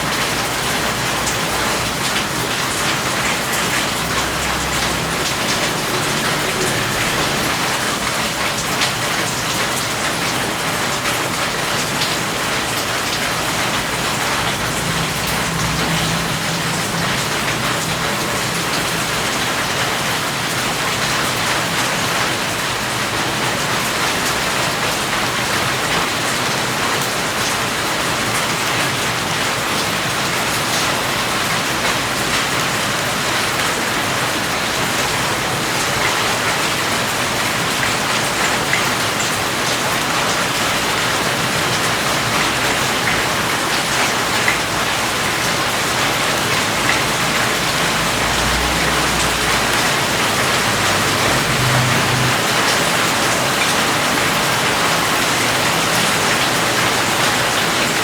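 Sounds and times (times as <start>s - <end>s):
steady rain on a surface: 0.0s - 58.0s.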